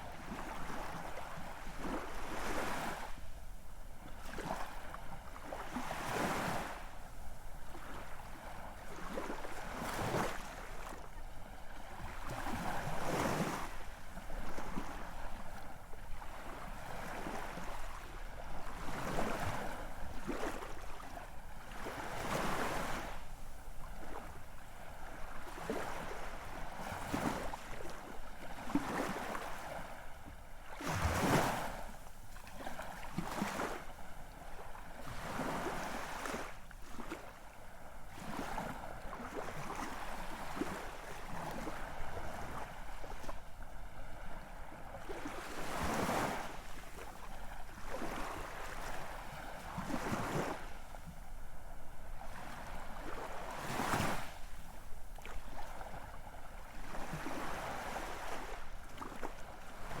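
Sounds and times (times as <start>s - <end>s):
ocean waves breaking on shore: 0.1s - 60.0s.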